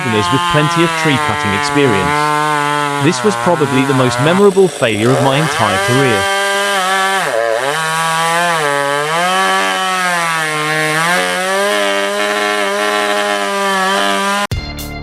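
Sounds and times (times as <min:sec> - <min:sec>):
chainsaw cutting wood: 0:00.0 - 0:14.5.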